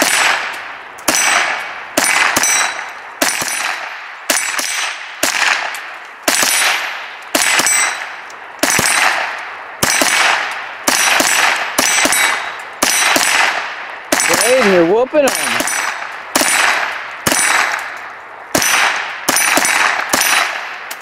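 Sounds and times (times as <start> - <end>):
rifle shots: 0.0 - 21.0.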